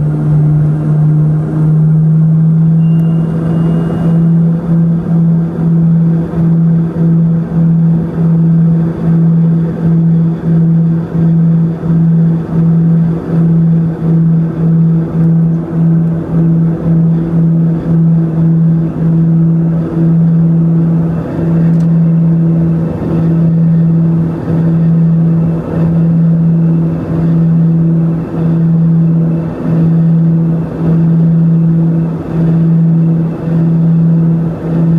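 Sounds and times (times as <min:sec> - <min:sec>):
engine and airflow noise: 0:00.0 - 0:34.9
pulsing propeller drone: 0:00.0 - 0:34.9.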